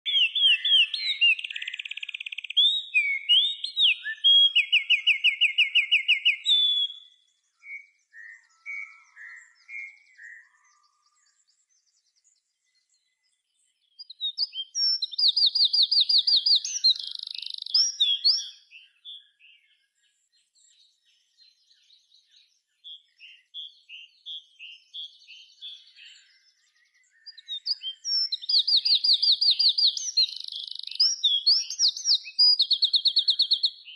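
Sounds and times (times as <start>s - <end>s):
songbird singing trills: 0.0s - 33.9s.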